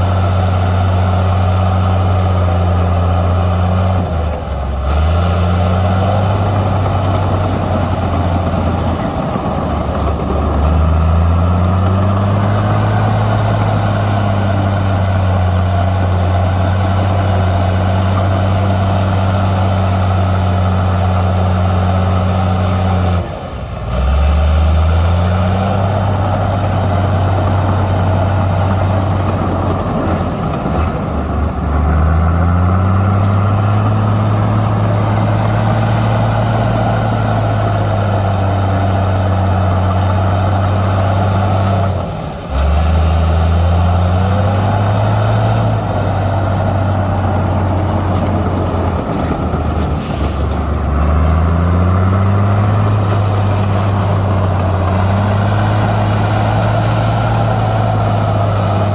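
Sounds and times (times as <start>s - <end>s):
heavy diesel engine revving: 0.0s - 58.9s.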